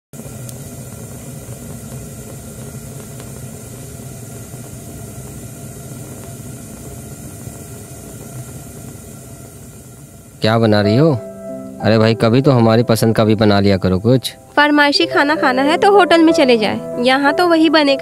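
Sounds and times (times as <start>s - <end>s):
gas stove burners hissing: 0.1s - 18.0s.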